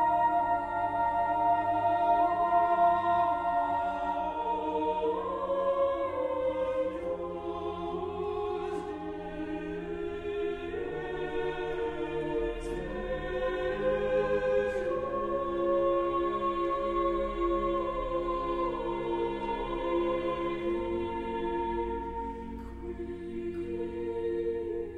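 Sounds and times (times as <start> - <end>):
slow choral chords: 0.0 - 24.9.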